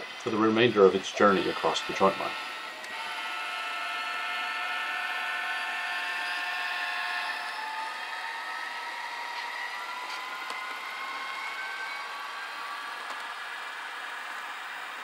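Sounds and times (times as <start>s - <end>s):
model train motor whine: 0.0s - 15.0s.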